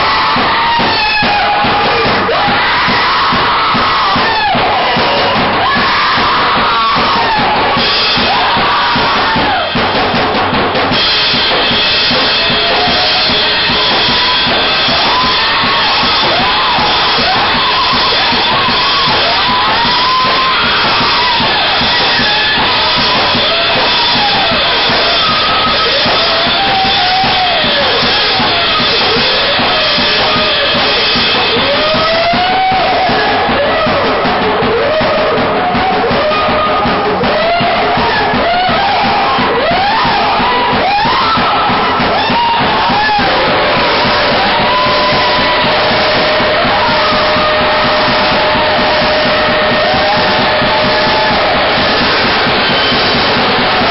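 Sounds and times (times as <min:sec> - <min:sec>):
drum kit played hard: 0:00.0 - 0:53.9
wavering guitar effects noise: 0:10.8 - 0:53.9.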